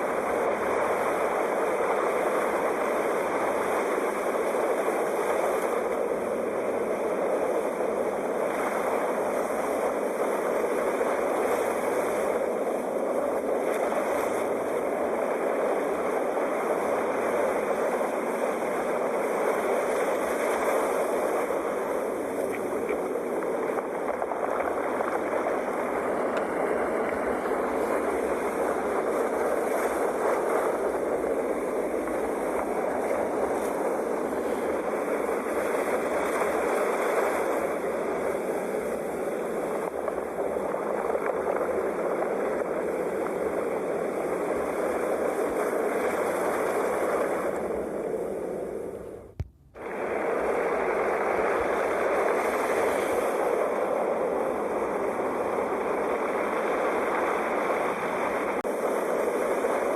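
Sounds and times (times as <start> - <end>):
sea waves washing: 0.0 - 59.9.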